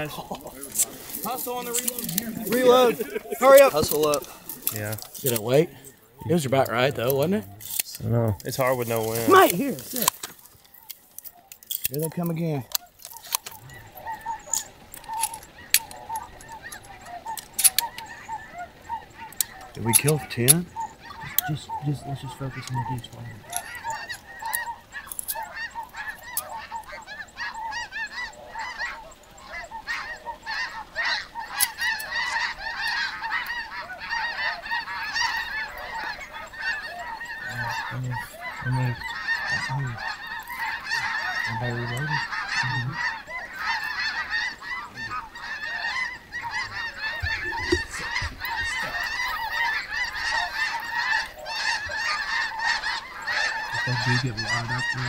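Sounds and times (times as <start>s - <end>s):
flock of geese honking: 0.0s - 55.0s.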